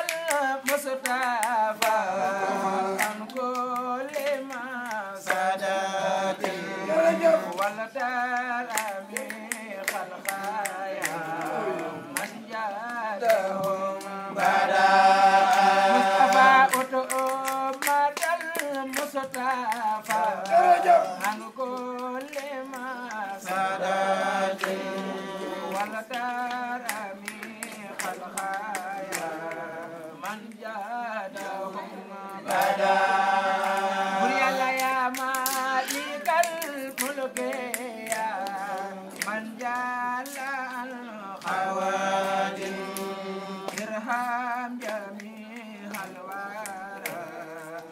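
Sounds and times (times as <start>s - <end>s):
voices chanting devotional song: 0.0s - 47.9s.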